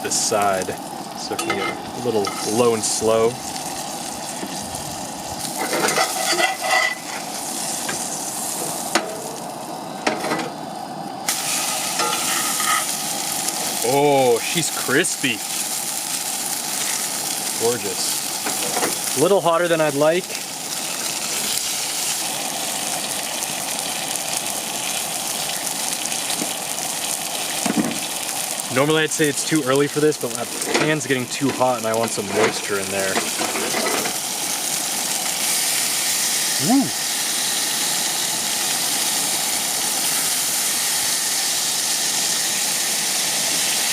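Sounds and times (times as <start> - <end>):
fish sizzling in a pan: 0.0 - 43.9.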